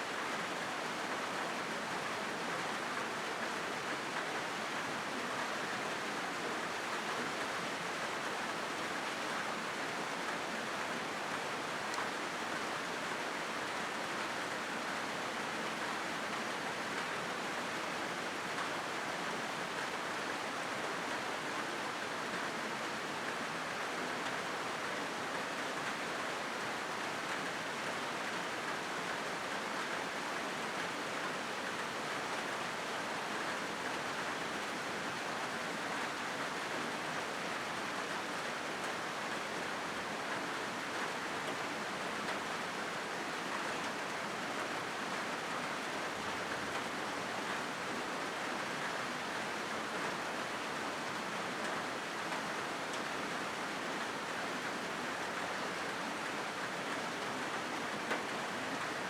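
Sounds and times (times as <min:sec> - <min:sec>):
rain on a metal roof: 0:00.0 - 0:59.0.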